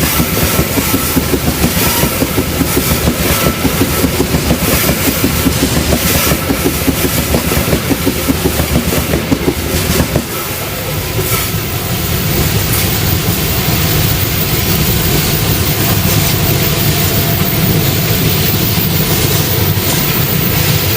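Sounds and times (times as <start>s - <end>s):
locomotive engine drone: 0.0s - 20.9s.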